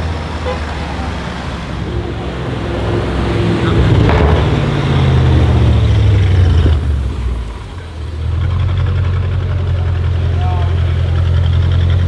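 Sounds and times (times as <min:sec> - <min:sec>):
deep car engine rumbling: 0:00.0 - 0:12.0.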